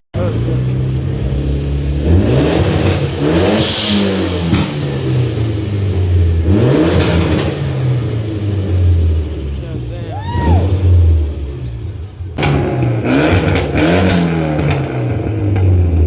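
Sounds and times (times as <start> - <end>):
exhaust pop: 0.1 - 16.0
car engine revving: 0.2 - 16.0.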